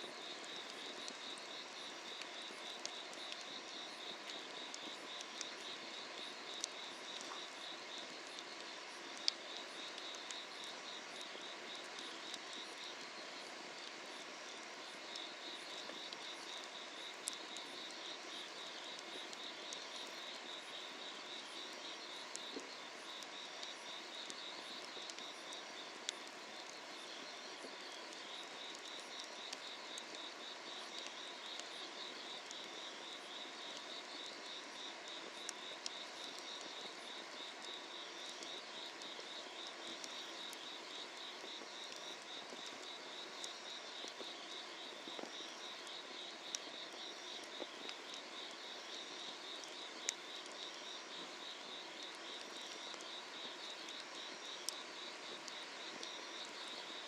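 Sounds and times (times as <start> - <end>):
insects chirping trill: 0.0 - 57.0.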